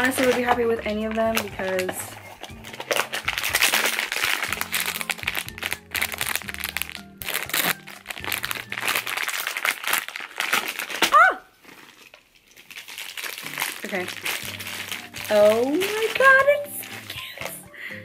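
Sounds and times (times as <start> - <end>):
background music: 0.0 - 10.2, 13.0 - 18.0
plastic bag crinkling and tearing: 0.0 - 17.6.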